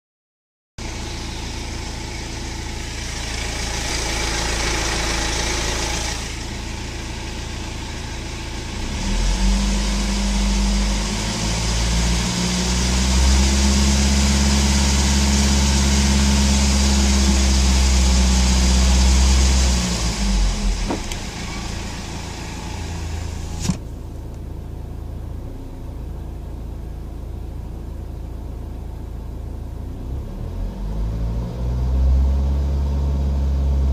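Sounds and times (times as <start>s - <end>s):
diesel engine idling and revving: 0.8s - 33.9s.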